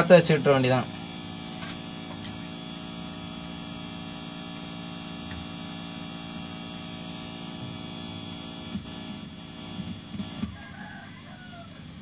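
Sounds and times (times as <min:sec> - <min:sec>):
mains hum through speakers: 0:00.0 - 0:12.0.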